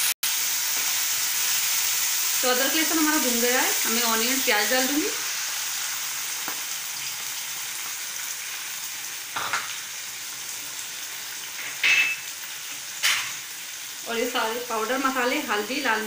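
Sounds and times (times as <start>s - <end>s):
onion paste sizzling in oil: 0.0s - 16.0s.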